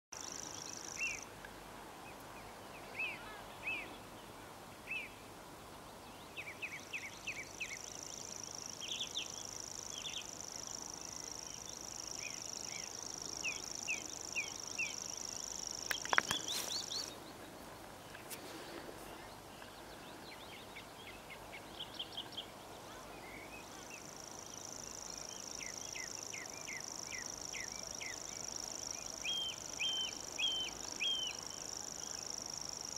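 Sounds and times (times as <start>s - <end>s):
song thrush singing: 4.9s - 32.4s
warbler reeling song: 6.2s - 32.9s.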